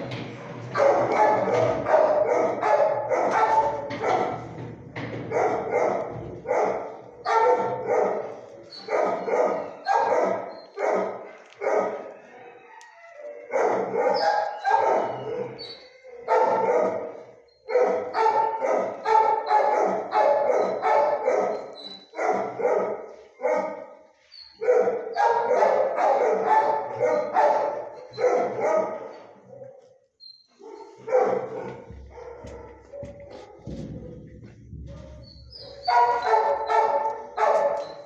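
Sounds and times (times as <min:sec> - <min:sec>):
dogs barking: 0:00.0 - 0:30.0, 0:30.6 - 0:38.0.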